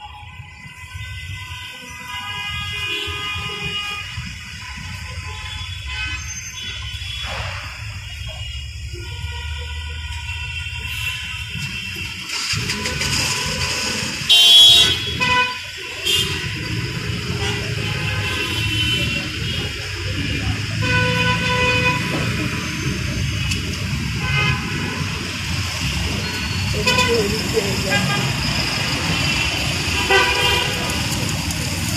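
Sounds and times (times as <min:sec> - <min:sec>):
car horns honking: 0:00.0 - 0:31.4
road traffic rumble: 0:00.0 - 0:31.9.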